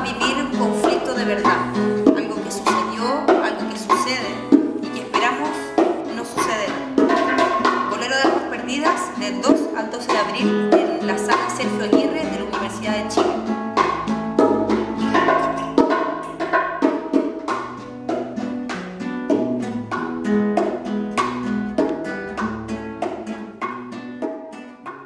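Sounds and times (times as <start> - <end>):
acoustic guitar strumming: 0.0 - 25.0
hand percussion: 0.0 - 25.0.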